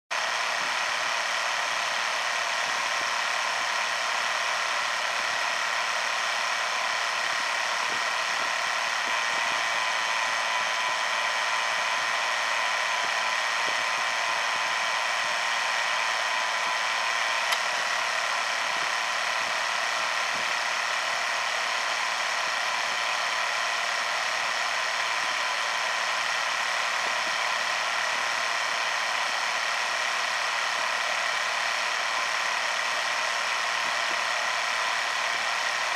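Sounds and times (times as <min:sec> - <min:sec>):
engine idling: 0:00.1 - 0:35.9
belt drive whine: 0:00.2 - 0:35.9.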